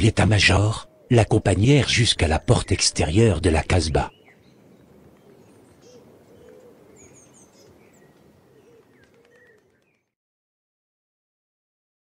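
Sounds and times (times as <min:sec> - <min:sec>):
bird calls and chirps: 0:00.2 - 0:10.2.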